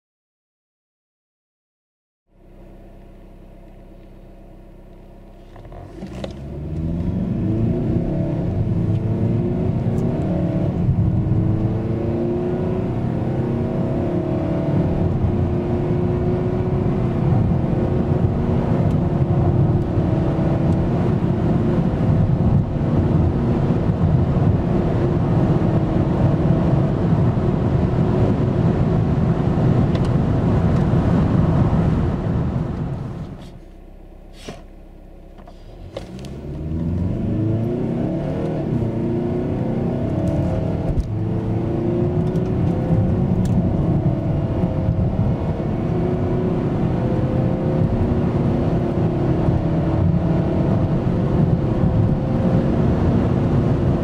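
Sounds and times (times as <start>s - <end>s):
diesel engine accelerating: 2.3s - 54.0s.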